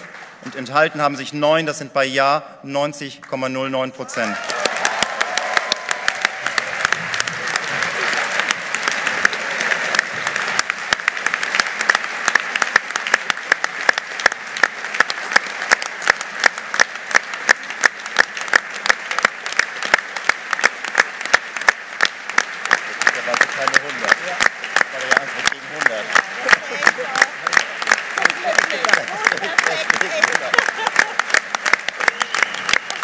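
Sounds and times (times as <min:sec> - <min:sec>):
crowd applauding: 0:00.0 - 0:00.9, 0:04.0 - 0:33.0.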